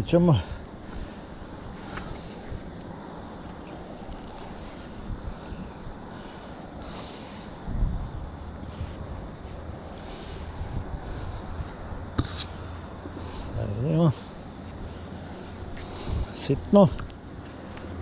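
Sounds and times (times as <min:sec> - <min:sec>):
insect chorus: 0:00.0 - 0:18.0.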